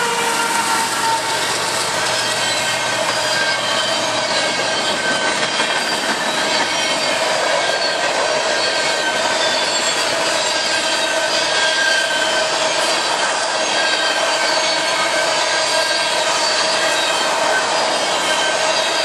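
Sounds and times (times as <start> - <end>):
faint wheel squeal: 0.0 - 19.0
train wheels rushing on rail: 0.0 - 19.0.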